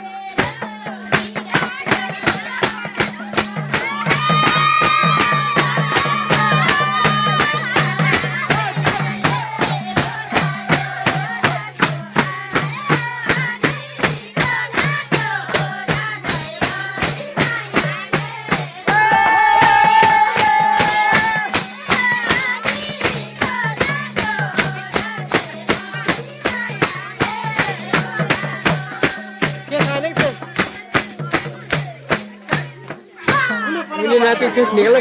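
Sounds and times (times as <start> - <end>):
jingling percussion beat: 0.0 - 35.0
person singing folk song: 0.0 - 35.0.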